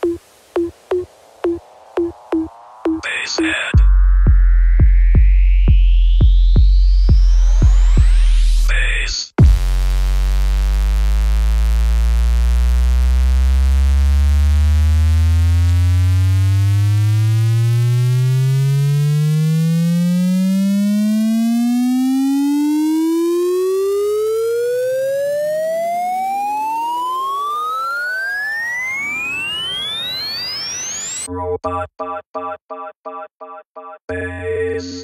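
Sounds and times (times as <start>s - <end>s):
rising synthesizer sweep: 0.0s - 3.1s, 3.7s - 8.8s, 9.4s - 31.3s.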